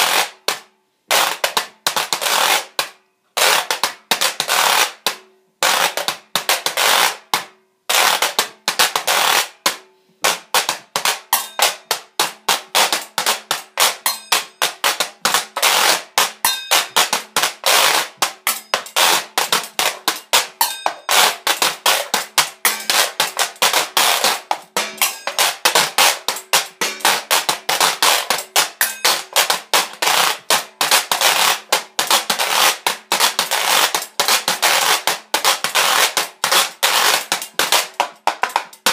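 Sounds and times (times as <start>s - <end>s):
washboard scraped and struck: 0.0s - 38.9s.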